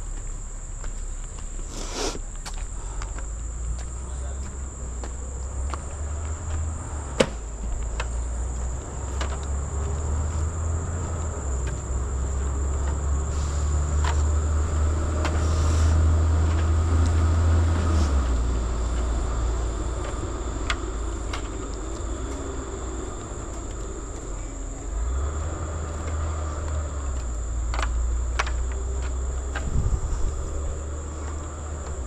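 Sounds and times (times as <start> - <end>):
insects droning: 0.0 - 32.0
low rumble: 0.0 - 32.0.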